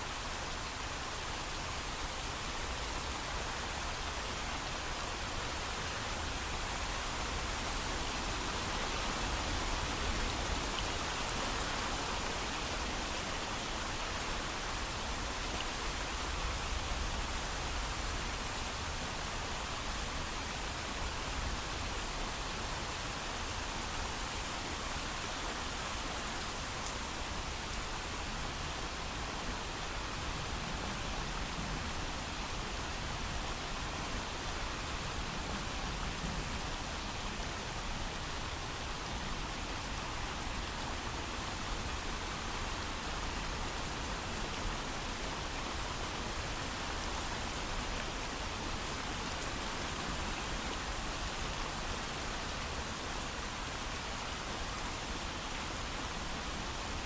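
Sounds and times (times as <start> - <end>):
heavy steady rain: 0.0 - 57.0.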